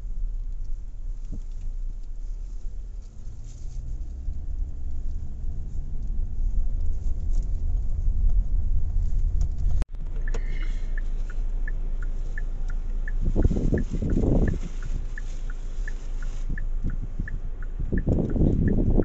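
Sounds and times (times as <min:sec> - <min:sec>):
engine and road rumble: 0:00.0 - 0:19.0
turn signal ticking: 0:00.0 - 0:19.0.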